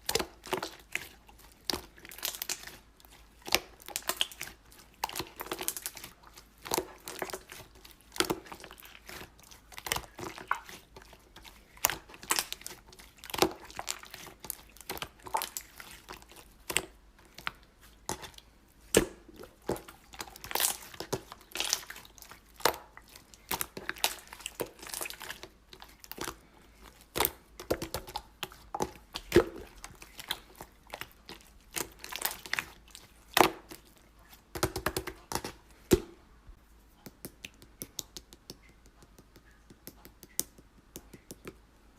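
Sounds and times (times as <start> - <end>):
slime squished by hand: 0.0 - 36.2.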